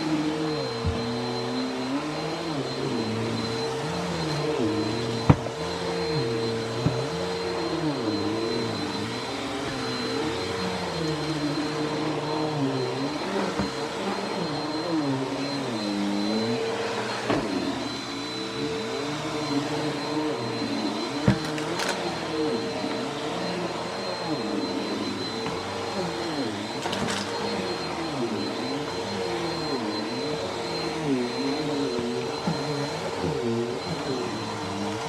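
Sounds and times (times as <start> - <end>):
vacuum cleaner on carpet: 0.0 - 35.0.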